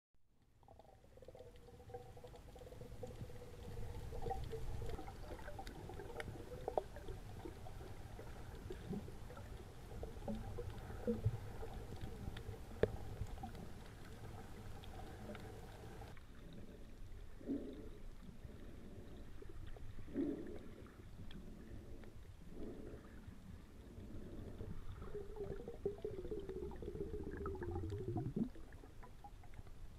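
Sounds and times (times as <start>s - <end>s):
muffled underwater rumble of water: 0.3s - 29.9s.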